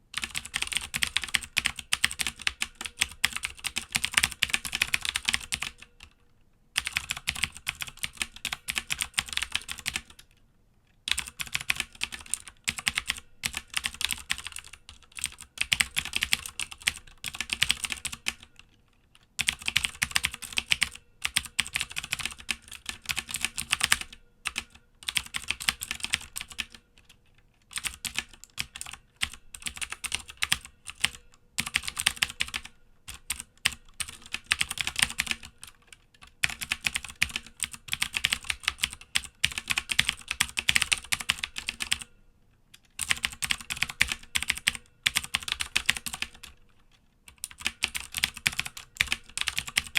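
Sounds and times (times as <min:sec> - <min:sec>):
mechanical keyboard typing: 0:00.2 - 0:06.2, 0:06.8 - 0:10.4, 0:11.1 - 0:18.6, 0:19.2 - 0:42.1, 0:42.8 - 0:49.9.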